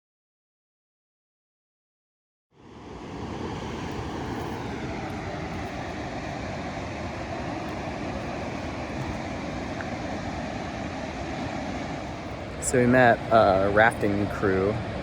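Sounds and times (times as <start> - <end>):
river rapids roaring: 2.6 - 15.0.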